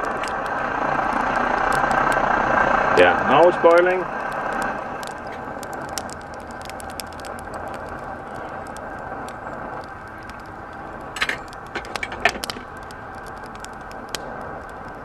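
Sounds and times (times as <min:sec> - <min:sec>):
camp stove roaring: 0:00.0 - 0:15.0
kettle boiling: 0:00.0 - 0:15.0
small crackling ticks: 0:00.0 - 0:15.0.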